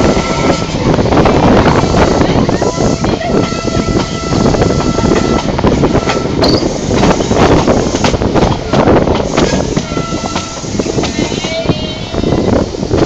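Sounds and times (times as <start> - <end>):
train wheels rumbling and clattering: 0.0 - 13.0.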